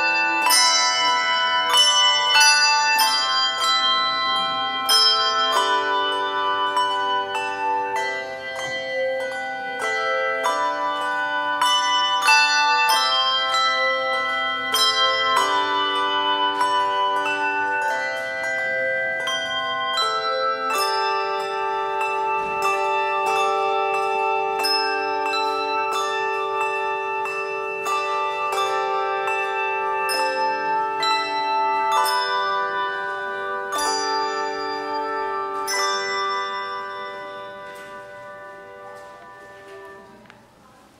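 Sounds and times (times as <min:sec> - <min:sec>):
handbell choir ringing a hymn: 0:00.0 - 0:40.3.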